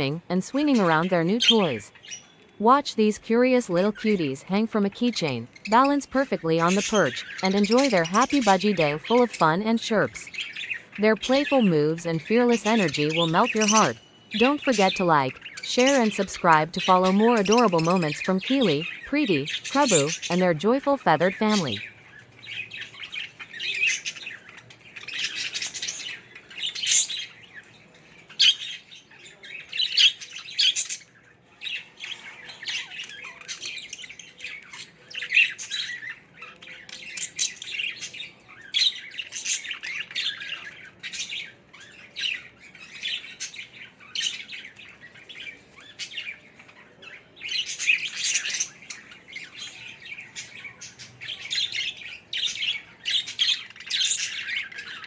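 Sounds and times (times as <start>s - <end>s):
budgerigars chirping and chattering: 0.0s - 2.5s, 3.1s - 55.0s.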